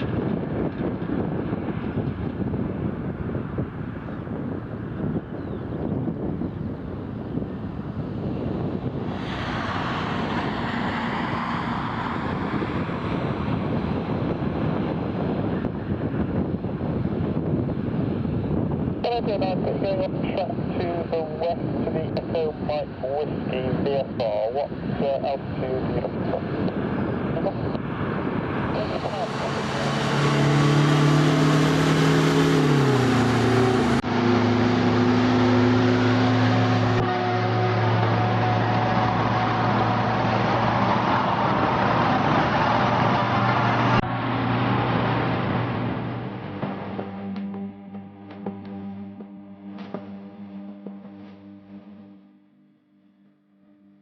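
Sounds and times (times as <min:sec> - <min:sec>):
jet engines roaring: 0:00.0 - 0:47.6
wind noise on microphone: 0:00.0 - 0:47.7.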